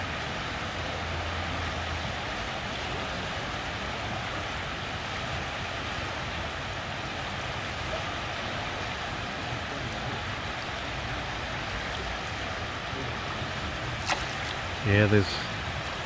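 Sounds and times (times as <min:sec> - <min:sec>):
floodwater rushing in river: 0:00.0 - 0:16.0.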